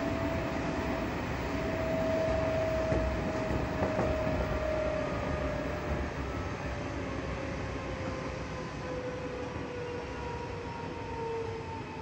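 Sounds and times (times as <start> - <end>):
electric train running with whine: 0.0 - 12.0.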